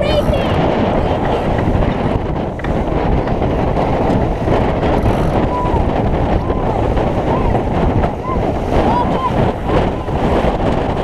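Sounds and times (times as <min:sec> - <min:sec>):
water rushing past hull: 0:00.0 - 0:11.0
wind buffeting microphone: 0:00.0 - 0:11.0.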